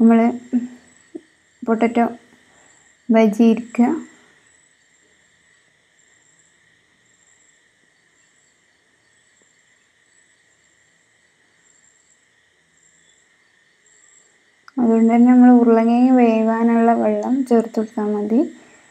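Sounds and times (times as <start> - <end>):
insect chirping: 0.0 - 18.9.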